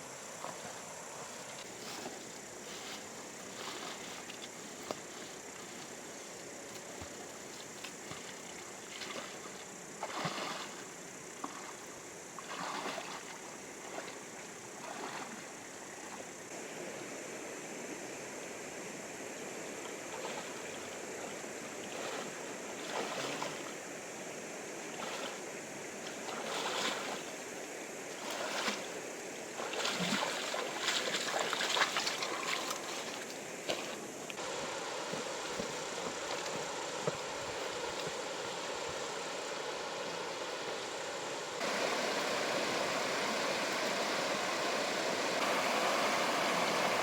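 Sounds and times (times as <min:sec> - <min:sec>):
river water flowing: 0:00.0 - 0:17.4, 0:18.9 - 0:47.0.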